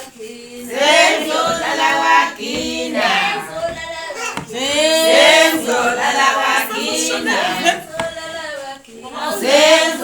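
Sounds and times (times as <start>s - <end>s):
group of voices singing: 0.0s - 10.0s.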